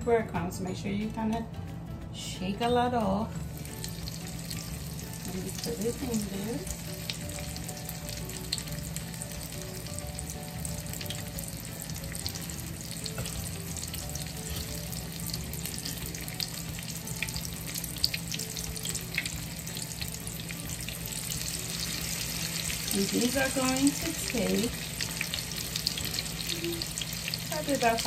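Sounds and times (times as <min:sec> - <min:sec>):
chicken frying in oil: 0:03.5 - 0:28.0.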